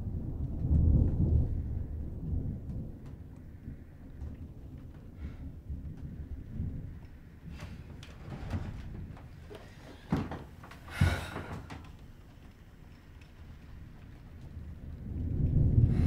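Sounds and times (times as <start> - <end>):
low rumble: 0.0 - 9.8, 10.8 - 16.0.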